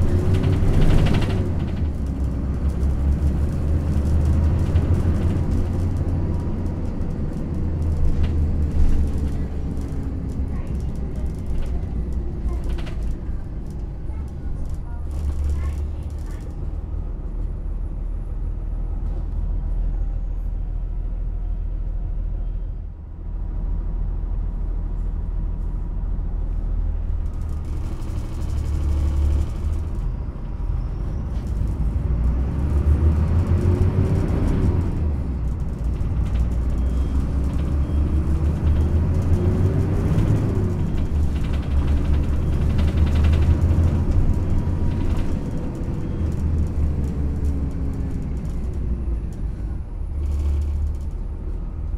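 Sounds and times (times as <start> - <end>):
bus engine and road rumble: 0.0 - 51.9.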